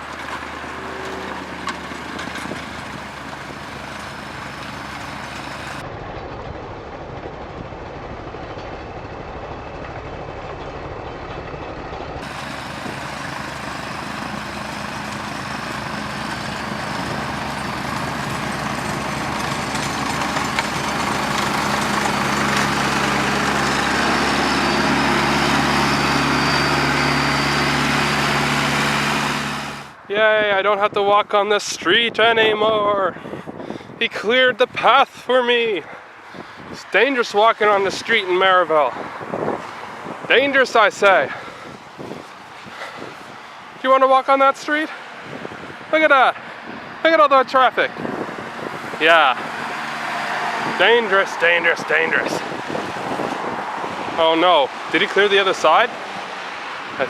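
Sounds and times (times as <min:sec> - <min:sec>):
snow-clearing machine engine: 0:00.0 - 0:57.0.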